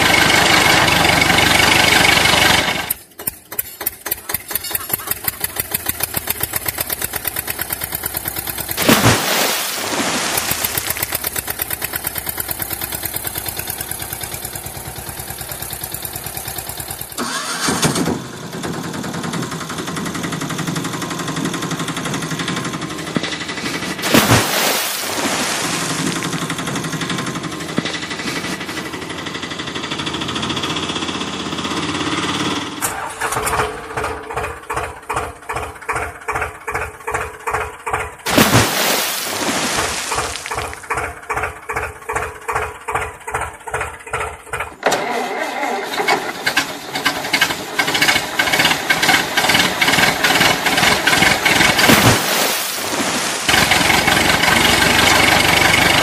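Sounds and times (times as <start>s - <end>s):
tractor engine chugging: 0.0s - 8.8s, 10.3s - 24.1s, 25.9s - 38.3s, 40.1s - 51.9s, 52.8s - 56.0s.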